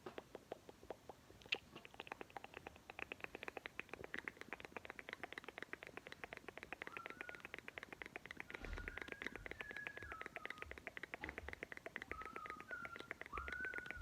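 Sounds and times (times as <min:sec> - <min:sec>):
precipitation ticking on hard surface: 0:00.0 - 0:14.0.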